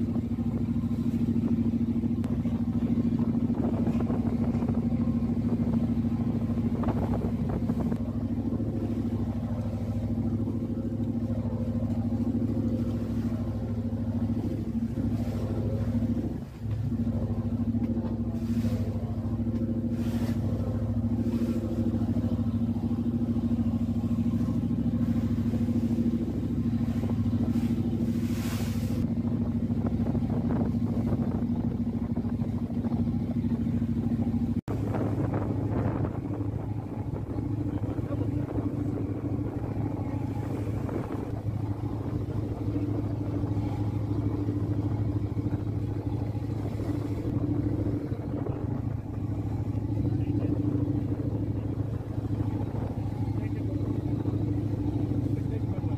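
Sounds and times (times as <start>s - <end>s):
vehicle engine droning: 0.0s - 55.9s.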